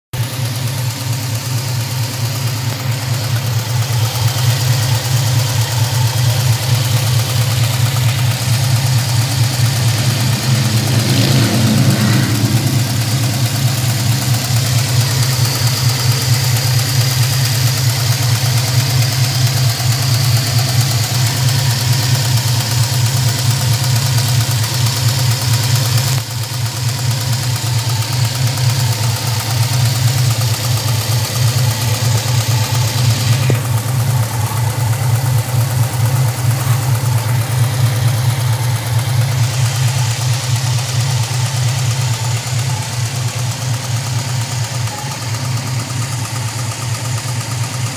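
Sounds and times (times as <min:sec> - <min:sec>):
car engine idling: 0:00.2 - 0:47.9
engine lifter ticking: 0:00.2 - 0:47.9.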